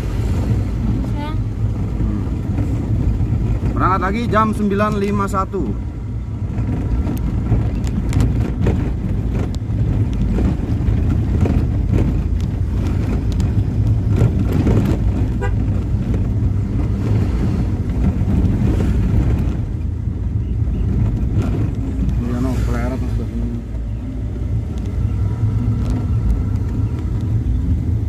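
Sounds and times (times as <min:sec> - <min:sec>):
car engine and tyres rumbling: 0:00.0 - 0:28.0
knocks and rattles from bumps: 0:01.0 - 0:28.0.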